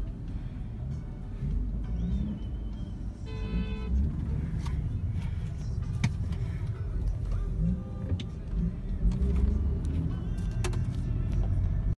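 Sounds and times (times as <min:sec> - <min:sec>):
car engine and road rumble: 0:00.0 - 0:11.9.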